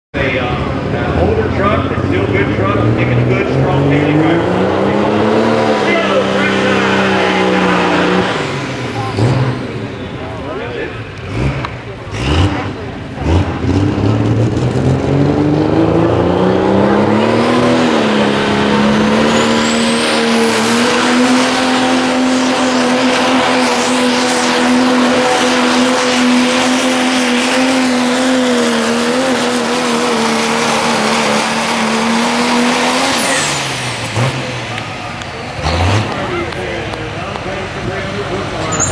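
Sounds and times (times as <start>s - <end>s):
diesel truck engine at full throttle: 0.1s - 38.9s.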